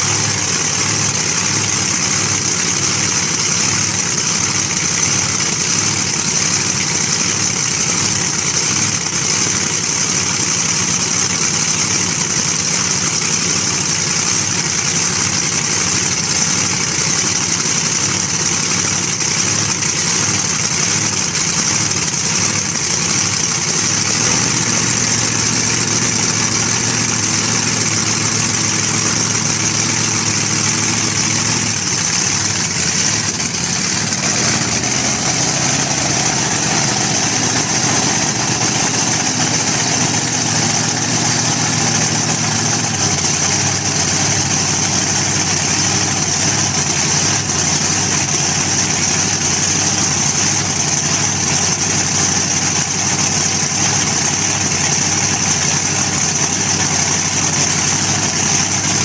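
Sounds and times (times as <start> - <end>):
hot-rod engine idling loudly: 0.0 - 59.0.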